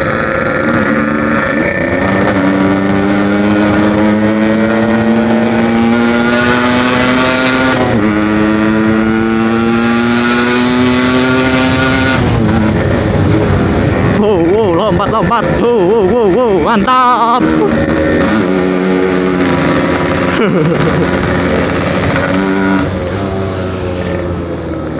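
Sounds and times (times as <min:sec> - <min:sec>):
two-stroke motorcycle accelerating: 0:00.0 - 0:24.9.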